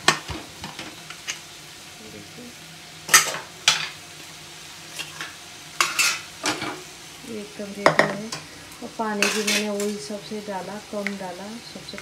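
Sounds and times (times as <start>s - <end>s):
faint sizzle from wok: 0.0s - 12.0s.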